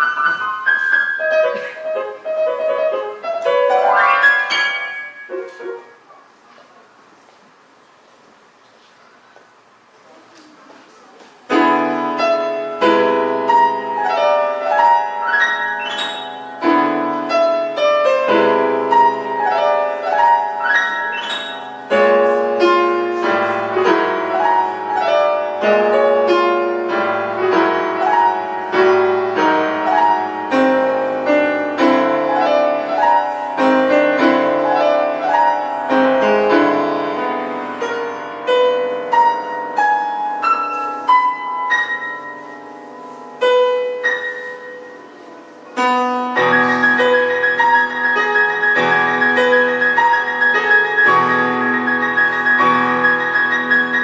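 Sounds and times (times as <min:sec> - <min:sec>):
solo piano classical piece: 0:00.0 - 0:54.0.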